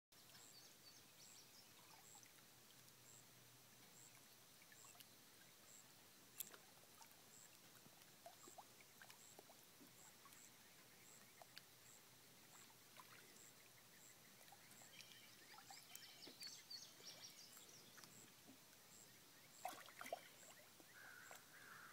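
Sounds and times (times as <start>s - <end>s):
small ticks and plinks: 0.2s - 21.5s.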